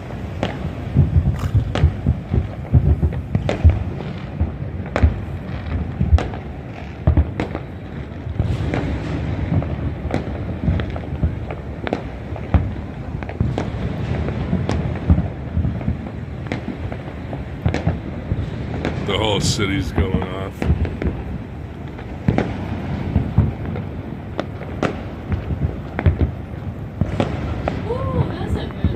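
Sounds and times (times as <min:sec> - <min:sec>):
distant fireworks rumble and crackle: 0:00.0 - 0:28.9
fireworks bangs: 0:00.0 - 0:28.9.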